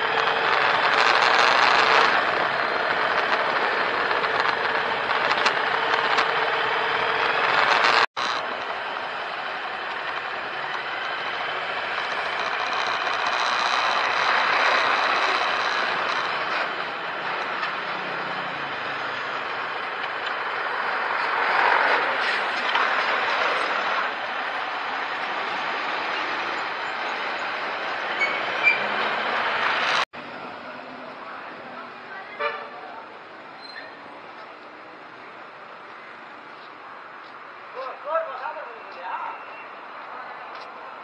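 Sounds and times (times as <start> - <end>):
lorry engine and tyre noise: 0.0 - 41.0
traffic noise: 0.0 - 41.0.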